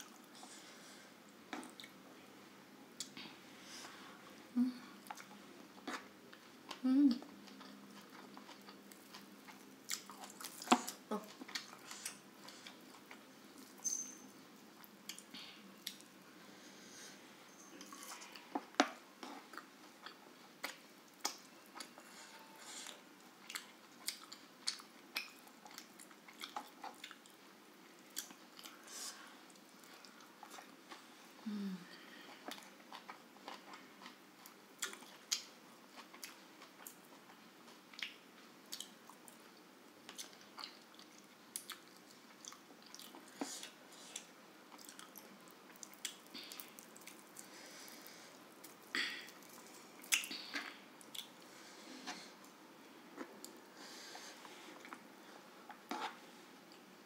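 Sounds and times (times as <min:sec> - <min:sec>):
person chewing: 0:04.9 - 0:14.1, 0:14.8 - 0:16.2, 0:17.8 - 0:27.4, 0:28.0 - 0:56.9.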